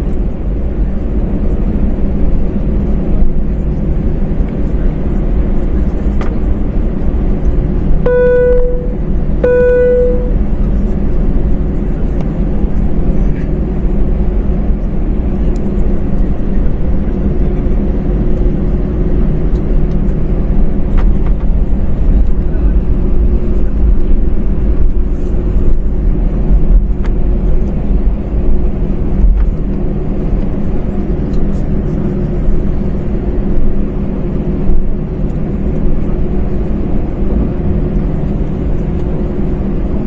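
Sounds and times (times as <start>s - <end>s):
aircraft cabin engine rumble: 0.0s - 40.0s.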